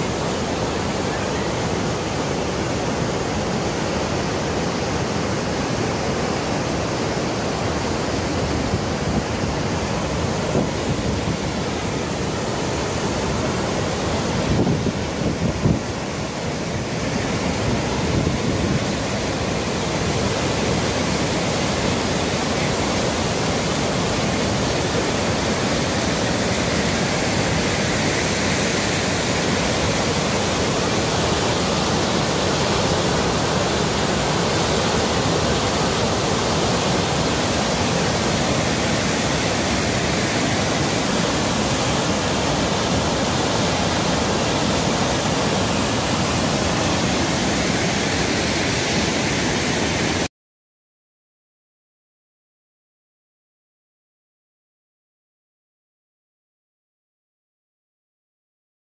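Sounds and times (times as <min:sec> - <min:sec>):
waterfall crashing: 0:00.0 - 0:50.3.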